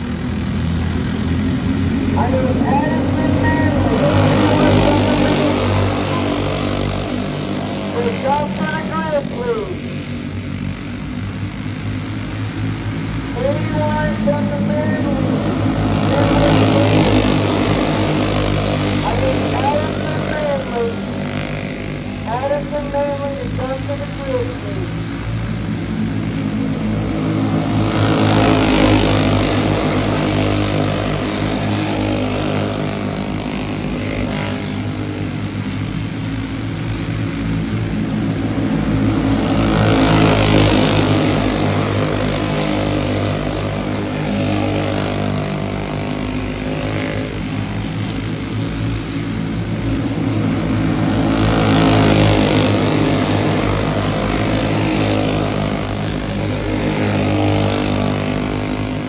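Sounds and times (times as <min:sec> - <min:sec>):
racing kart engines: 0:00.0 - 0:59.0.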